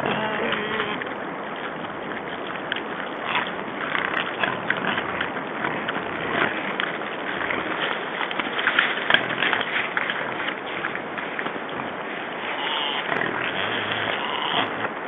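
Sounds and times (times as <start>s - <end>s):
wild boars squeaking: 0.0s - 1.2s, 2.2s - 15.0s
steady background noise: 0.0s - 15.0s.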